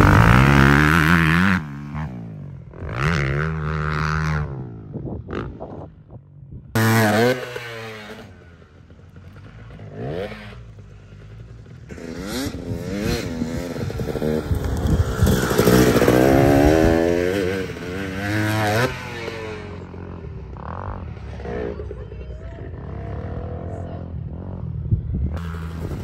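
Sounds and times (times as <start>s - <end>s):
dirt bike engine revving: 0.0s - 4.7s, 6.8s - 26.0s.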